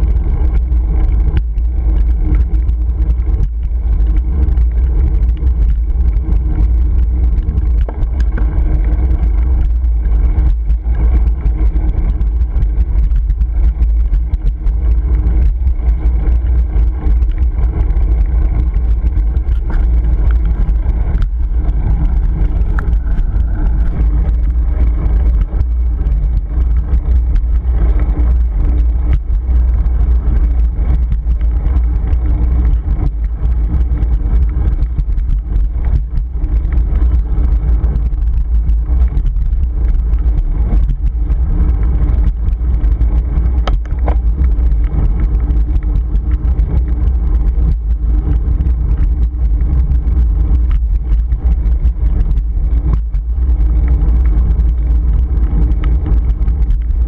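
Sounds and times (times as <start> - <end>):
road and tyre noise: 0.0 - 57.0
wind buffeting microphone: 0.0 - 57.0.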